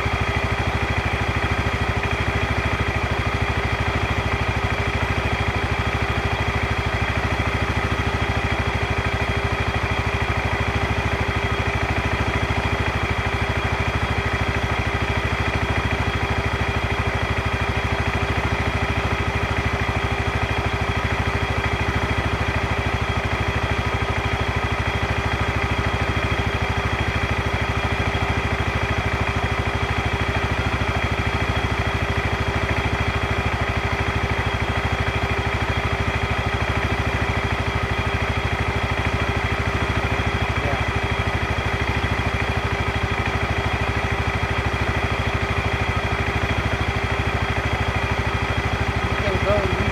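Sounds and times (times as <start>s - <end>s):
atv engine idling: 0.0s - 49.9s.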